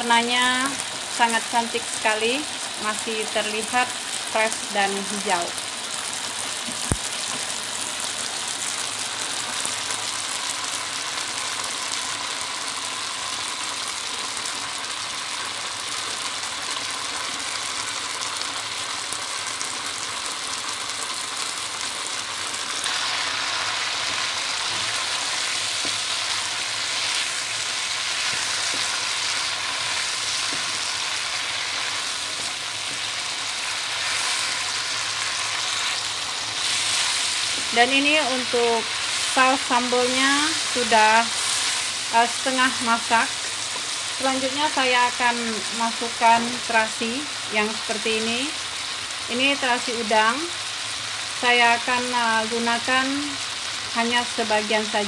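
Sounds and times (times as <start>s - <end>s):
vegetables sizzling in a wok: 0.0s - 55.0s.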